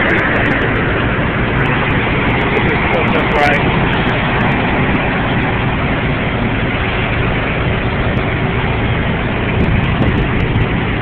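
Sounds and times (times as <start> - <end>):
heavy vehicle engines idling: 0.0 - 11.0
road noise: 0.0 - 11.0.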